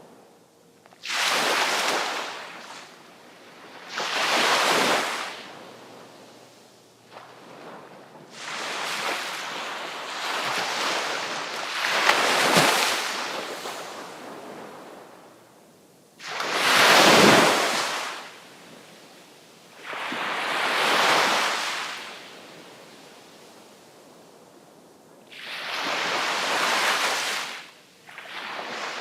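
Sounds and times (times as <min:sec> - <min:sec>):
sea waves breaking: 0:00.9 - 0:15.5, 0:16.2 - 0:18.4, 0:19.8 - 0:22.6, 0:25.3 - 0:29.0.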